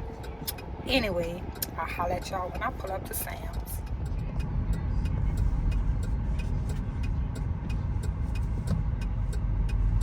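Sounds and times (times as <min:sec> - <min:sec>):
light regular ticking: 0:00.0 - 0:10.0
road and engine rumble: 0:00.0 - 0:10.0.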